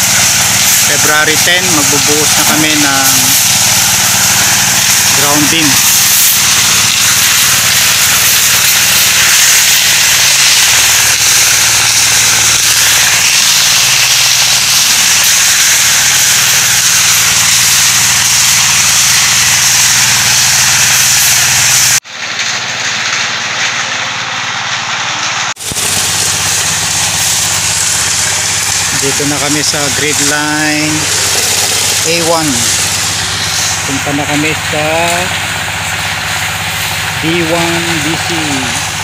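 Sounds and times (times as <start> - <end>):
loud even hiss: 0.0 - 22.1, 23.8 - 39.0
concrete mixer engine running: 0.0 - 39.0.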